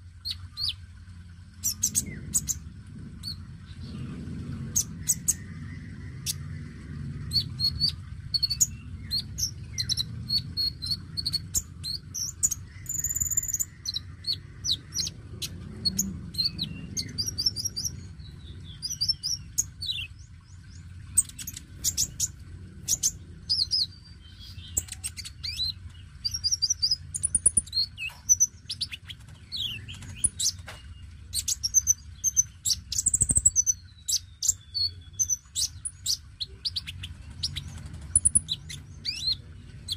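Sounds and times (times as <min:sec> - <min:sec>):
low background hum: 0:00.0 - 0:39.9
sunbird singing: 0:00.0 - 0:39.9.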